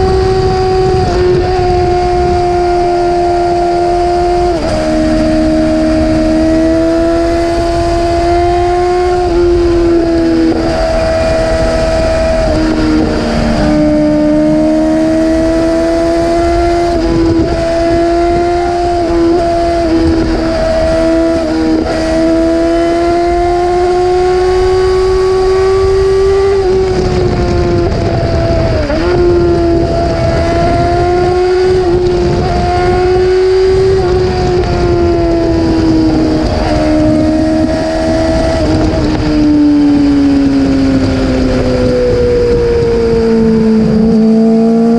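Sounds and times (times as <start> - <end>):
motorcycle engine revving high: 0.0 - 44.9.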